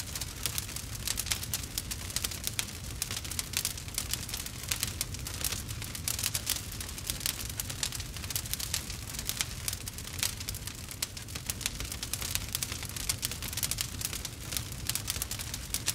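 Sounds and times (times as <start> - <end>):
campfire crackling and popping: 0.0 - 15.9
low rumble of burning: 0.0 - 15.9.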